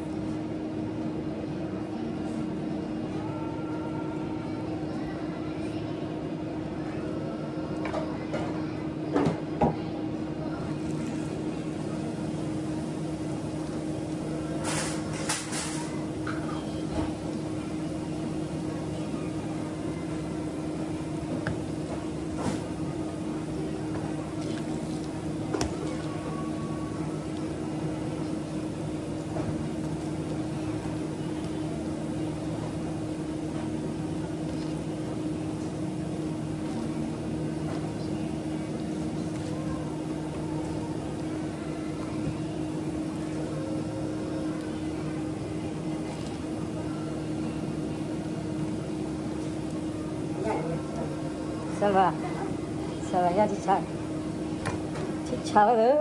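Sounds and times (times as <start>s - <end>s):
kitchen machinery hum: 0.0s - 56.0s.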